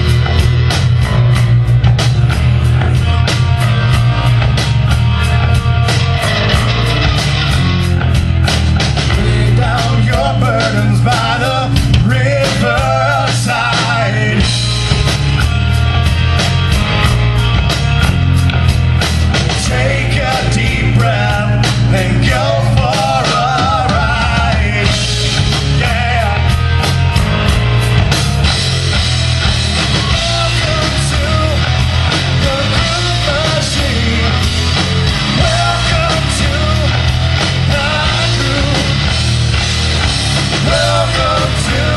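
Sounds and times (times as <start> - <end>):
rock band playing: 0.0 - 41.9
wavering lead guitar line: 0.0 - 41.9.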